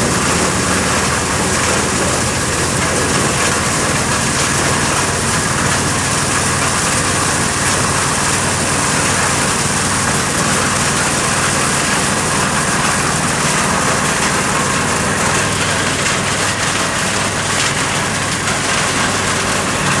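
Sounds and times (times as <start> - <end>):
corn sheller threshing: 0.0 - 20.0
engine hum: 0.0 - 20.0.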